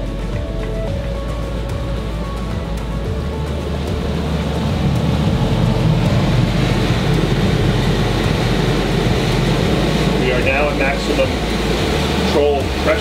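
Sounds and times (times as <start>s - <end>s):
marine diesel engines rumbling: 0.0s - 13.0s.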